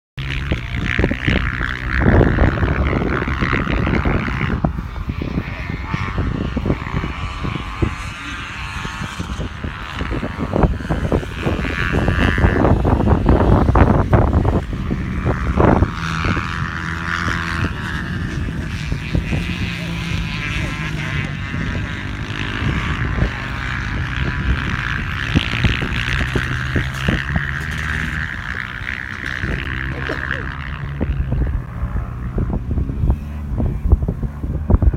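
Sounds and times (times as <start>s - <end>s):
dirt bike engines at high revs: 0.2s - 34.9s.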